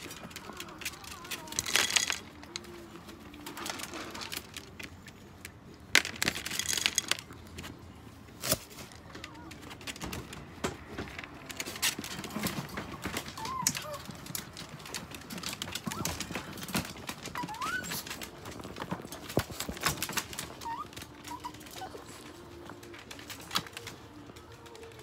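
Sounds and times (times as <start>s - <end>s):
dog crunching dry kibble: 0.0s - 25.0s.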